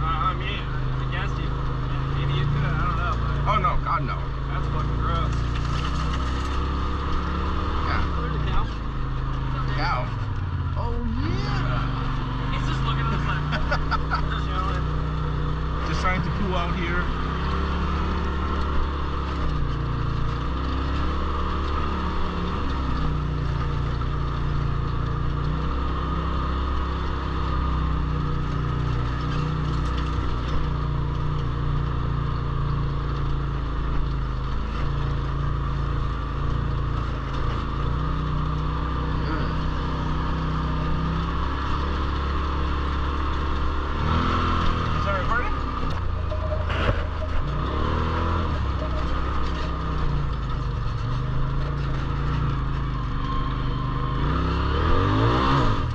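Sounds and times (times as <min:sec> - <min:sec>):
vehicle engine humming: 0:00.0 - 0:55.9.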